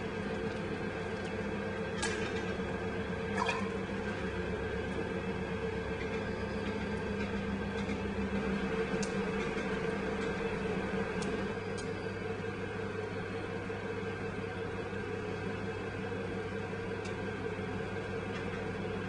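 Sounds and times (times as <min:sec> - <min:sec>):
potter's wheel motor humming: 0:00.0 - 0:19.0.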